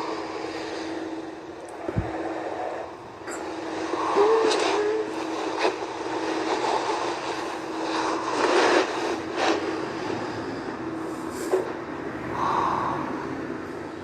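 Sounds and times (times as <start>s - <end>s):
constant hum: 0.0s - 14.0s
train rumbling: 0.0s - 14.0s.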